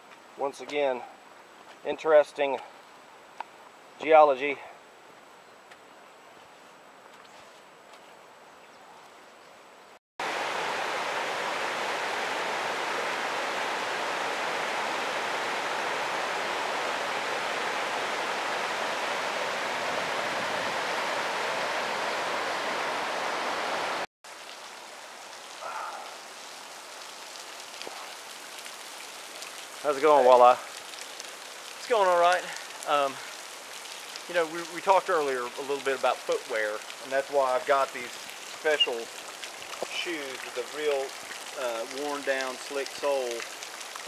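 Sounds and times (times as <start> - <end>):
quiet outdoor ambience: 0.0 - 44.0.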